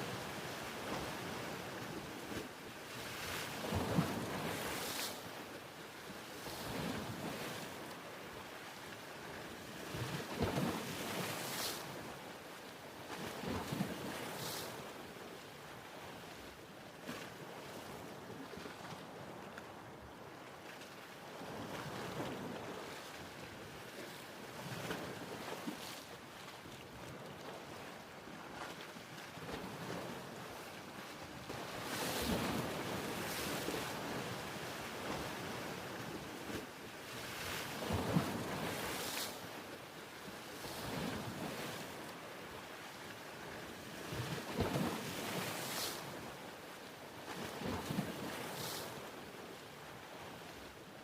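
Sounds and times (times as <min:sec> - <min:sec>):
waves breaking and washing in: 0:00.0 - 0:51.0.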